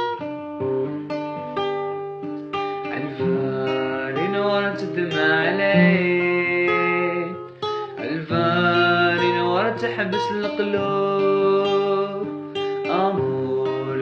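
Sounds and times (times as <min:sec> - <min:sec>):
acoustic guitar strumming and plucking: 0:00.0 - 0:14.0.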